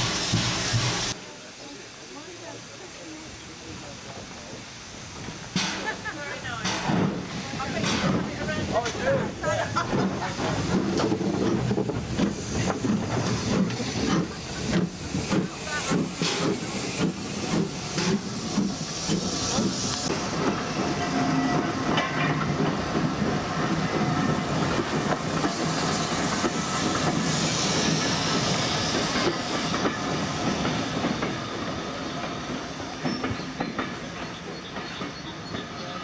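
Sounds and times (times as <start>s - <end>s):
steam hissing: 0.0s - 36.0s
steam train rolling past: 0.0s - 36.0s.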